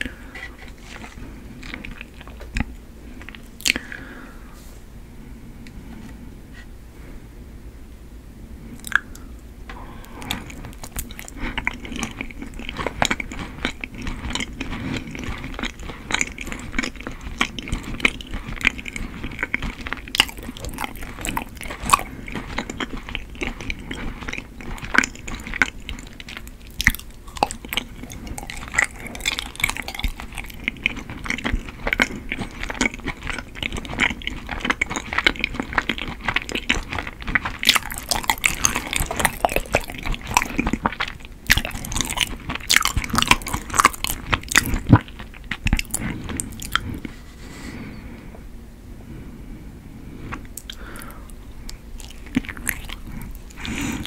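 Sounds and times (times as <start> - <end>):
chewing rice cake: 0.0 - 4.2, 10.0 - 47.4, 50.3 - 54.0.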